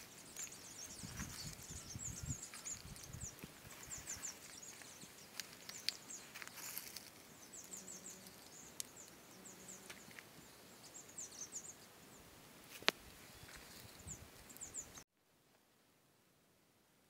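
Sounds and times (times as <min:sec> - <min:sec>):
small birds twittering: 0:00.0 - 0:15.0.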